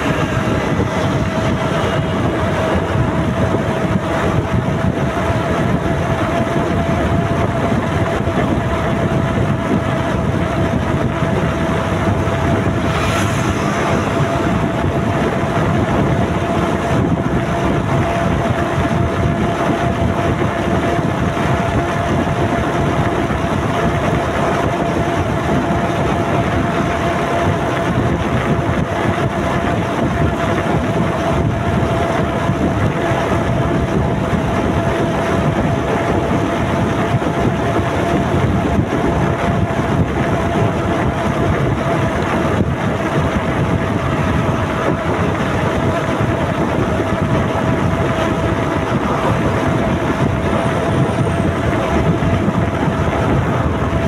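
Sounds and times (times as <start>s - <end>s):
motorcycle engine drone: 0.0s - 54.0s
steady high hum: 0.0s - 54.0s
wind rushing over microphone: 0.0s - 54.0s.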